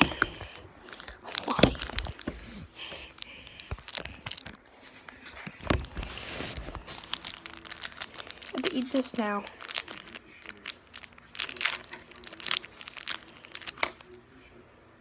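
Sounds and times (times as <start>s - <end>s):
candy wrappers crinkling: 0.0s - 14.3s.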